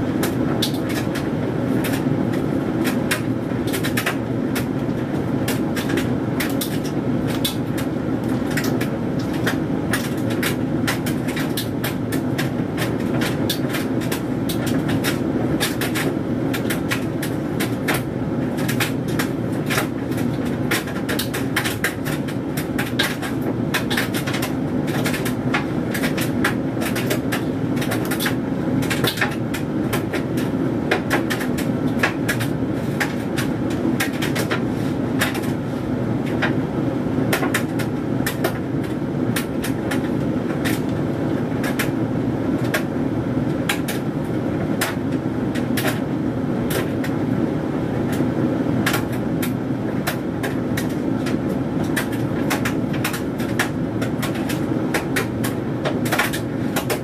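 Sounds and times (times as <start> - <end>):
tumble dryer motor hum: 0.0 - 57.0.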